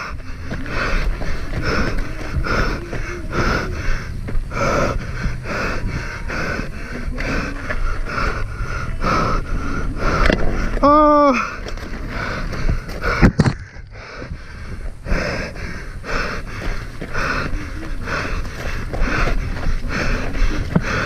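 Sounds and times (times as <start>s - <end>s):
bike rumbling on rough ground: 0.0s - 21.0s
heavy rhythmic panting: 0.0s - 21.0s.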